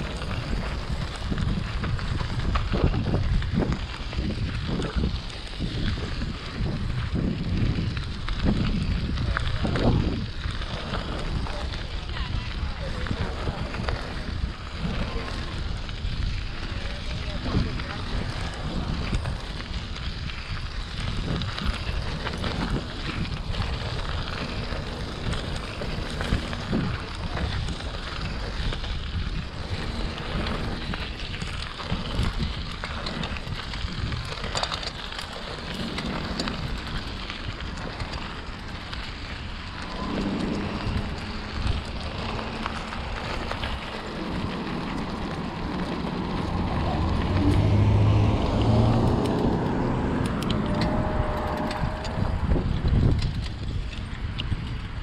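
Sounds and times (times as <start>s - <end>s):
bicycle rattling: 0.0s - 55.0s
vehicle engine hum: 0.0s - 55.0s
wind noise on microphone: 0.0s - 55.0s.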